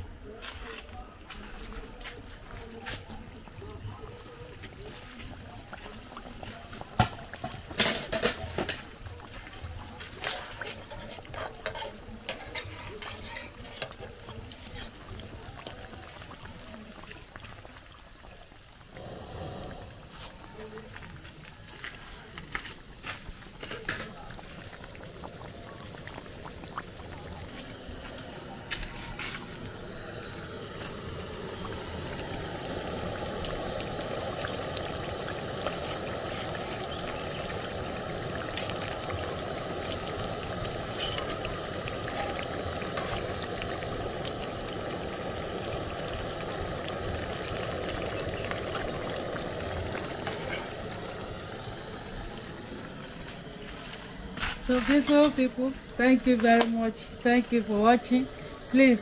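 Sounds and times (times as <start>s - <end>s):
oil bubbling and sizzling: 0.0s - 59.0s.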